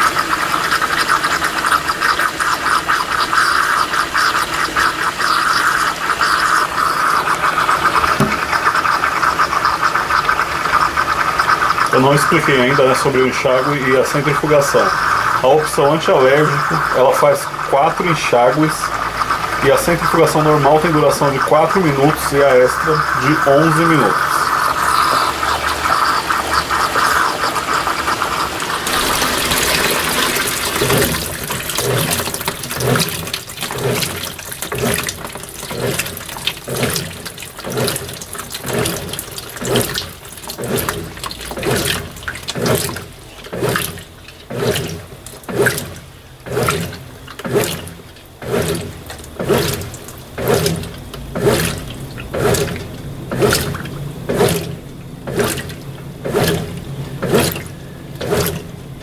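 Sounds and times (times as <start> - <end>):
washing machine water sloshing: 0.0 - 59.0
water pouring into tub: 0.0 - 59.0.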